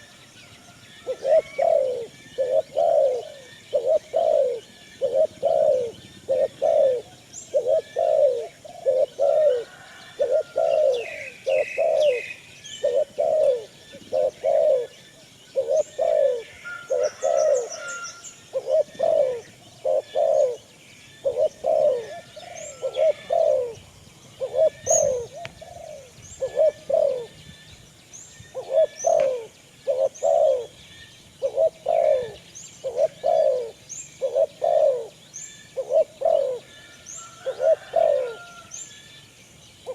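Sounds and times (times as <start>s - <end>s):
pigeons cooing: 1.0s - 27.6s, 28.5s - 30.8s, 31.4s - 38.7s
small birds chirping: 1.0s - 39.9s.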